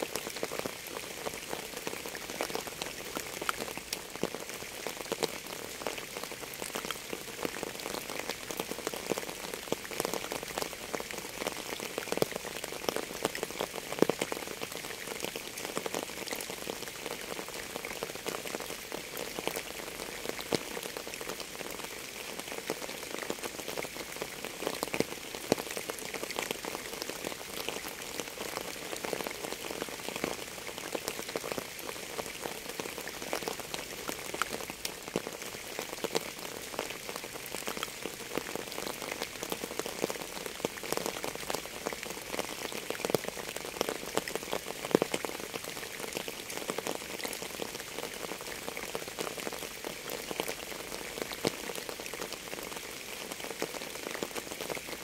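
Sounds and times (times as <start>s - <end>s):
louder raindrops: 0.0s - 55.0s
steady rain falling: 0.0s - 55.0s.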